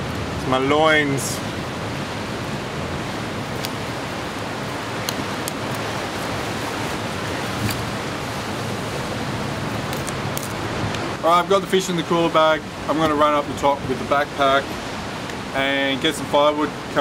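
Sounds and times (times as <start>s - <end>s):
ocean surf on rocks: 0.0s - 17.0s.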